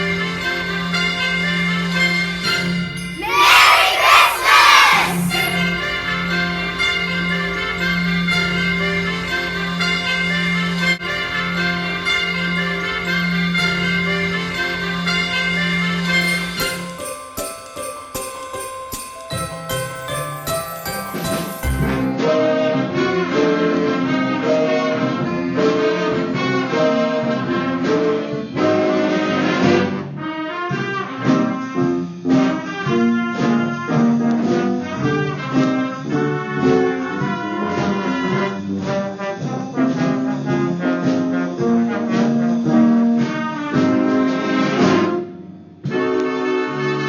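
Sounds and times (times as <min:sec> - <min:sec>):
brass-led band playing: 0:00.0 - 0:18.0, 0:20.2 - 0:47.0.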